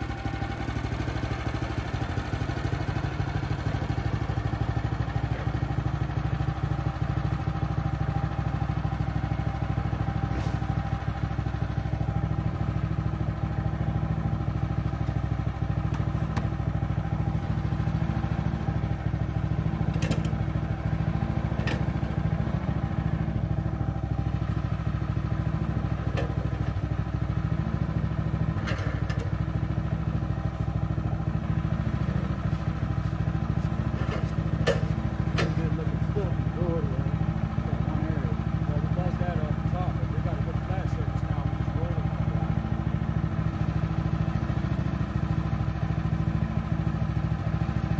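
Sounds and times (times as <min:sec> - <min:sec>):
small gasoline engine running: 0:00.0 - 0:47.9.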